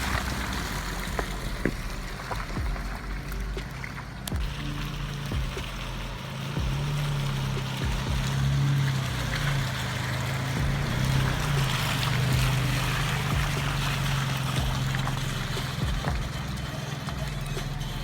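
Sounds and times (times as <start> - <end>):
low engine drone: 0.0 - 18.0
low thumps over bumps: 0.0 - 18.0
road and wind noise: 0.0 - 18.0.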